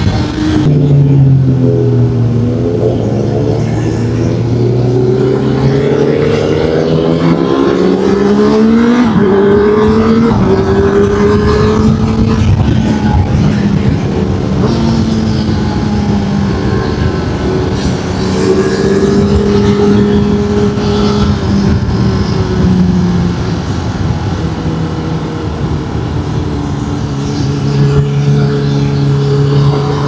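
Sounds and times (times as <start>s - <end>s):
wind rush: 0.0s - 30.0s.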